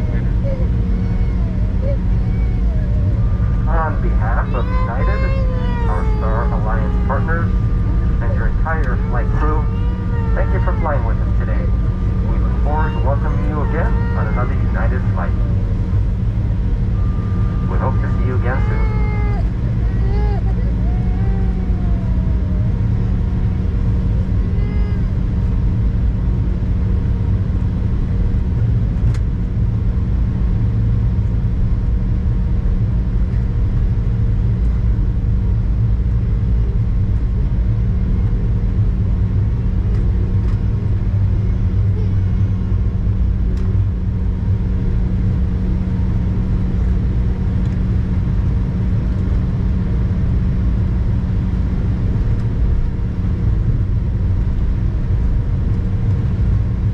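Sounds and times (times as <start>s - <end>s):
airliner cabin drone: 0.0s - 56.9s.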